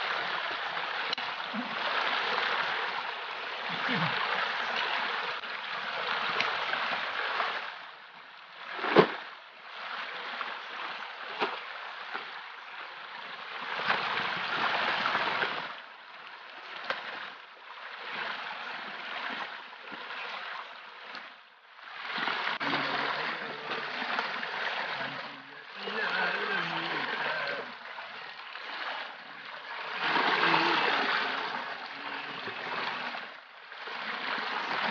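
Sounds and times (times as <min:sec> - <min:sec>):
stream running over rocks: 0:00.0 - 0:34.9.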